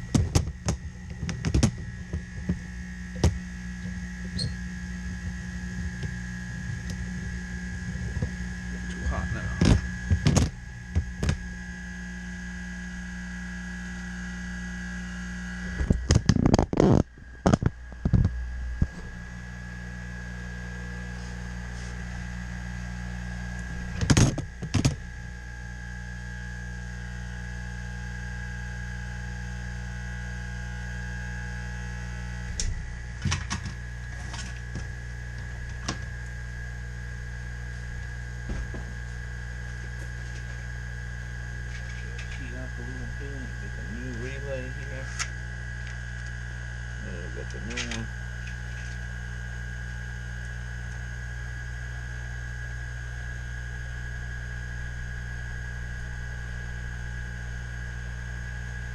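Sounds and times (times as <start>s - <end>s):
electrical mains hum: 0.0s - 58.9s
high whine from bench equipment: 0.0s - 58.9s.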